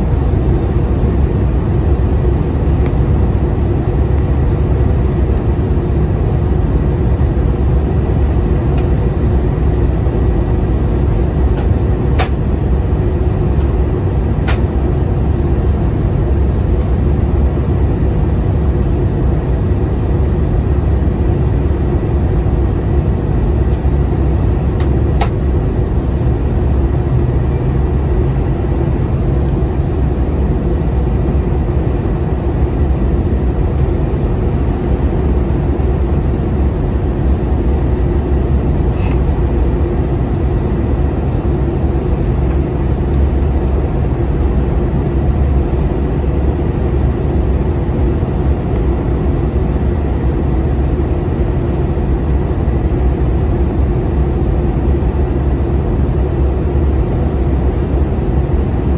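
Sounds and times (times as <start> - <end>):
aircraft engine and airflow rumble: 0.0 - 58.9
faint steady hum: 0.0 - 58.9.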